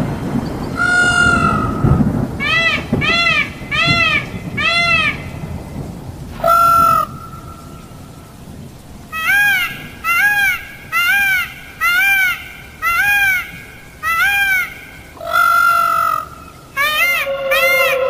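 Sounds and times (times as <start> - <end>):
peacock calling: 0.0 - 5.8, 6.4 - 8.4, 9.1 - 18.0.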